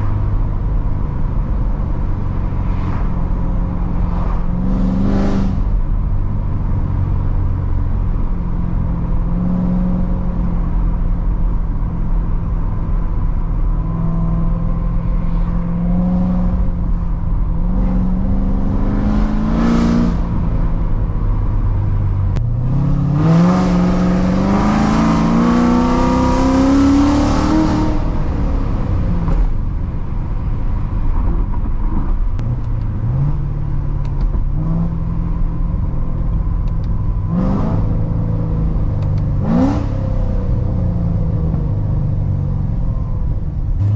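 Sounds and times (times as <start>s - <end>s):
sports car exhaust cruising: 0.0s - 43.9s.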